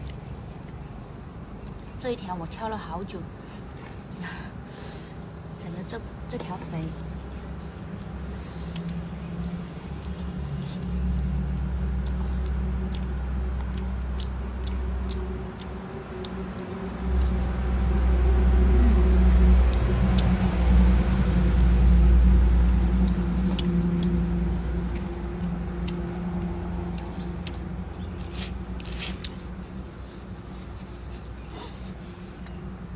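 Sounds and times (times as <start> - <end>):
vehicle engine rumbling: 0.0 - 32.9.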